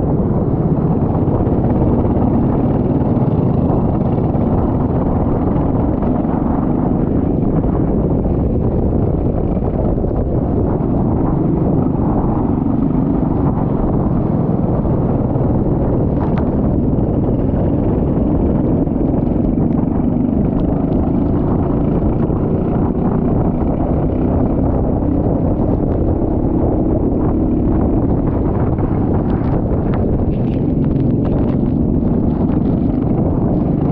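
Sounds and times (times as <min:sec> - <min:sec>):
go-kart engine running: 0:00.0 - 0:33.9
wind buffeting on microphone: 0:00.0 - 0:33.9.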